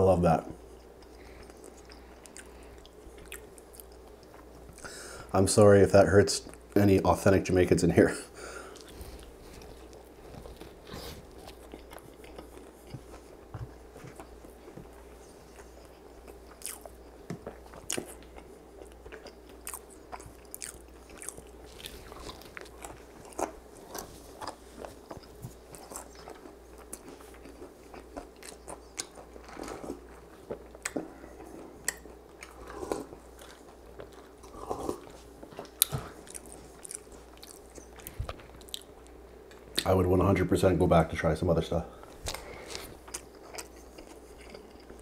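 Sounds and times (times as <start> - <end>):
chewing crunchy pastry: 0.5 - 4.9, 8.7 - 39.9, 42.0 - 45.0.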